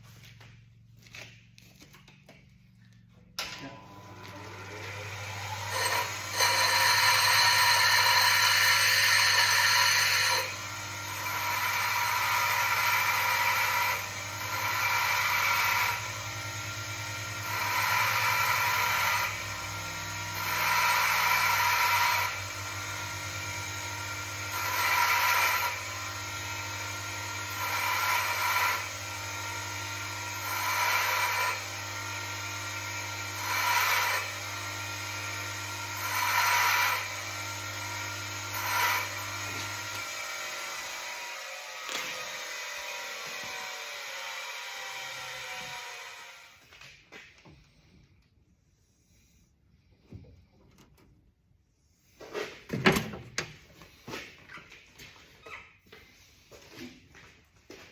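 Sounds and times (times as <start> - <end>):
grinder grinding steel bolt: 3.4 - 47.9, 52.1 - 54.1.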